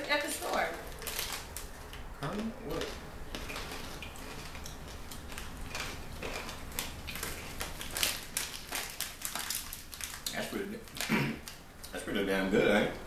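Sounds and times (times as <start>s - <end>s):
snack crackles and clicks: 0.5s - 12.0s.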